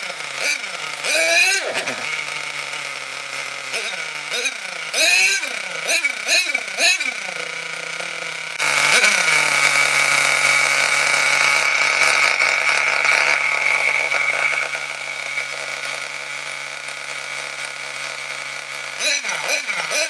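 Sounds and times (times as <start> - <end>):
small engine revving and idling: 0.0 - 20.0.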